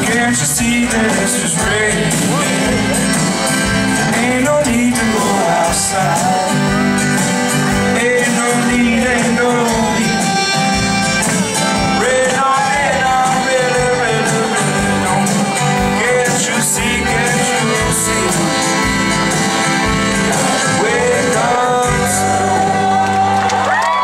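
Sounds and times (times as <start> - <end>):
accordion: 0.0 - 23.6
acoustic guitar: 0.0 - 24.0
live band playing acoustic song: 0.0 - 24.0.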